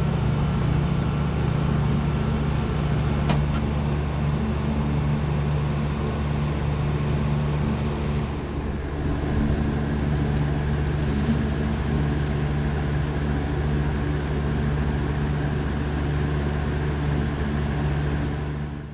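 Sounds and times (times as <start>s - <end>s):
heat pump unit humming: 0.0s - 18.9s.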